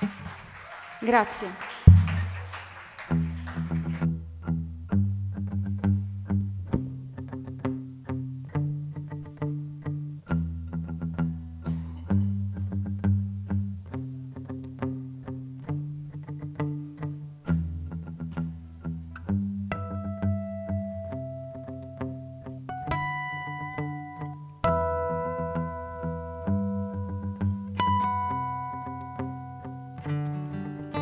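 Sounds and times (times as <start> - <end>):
acoustic guitar arpeggio: 0.0 - 31.0.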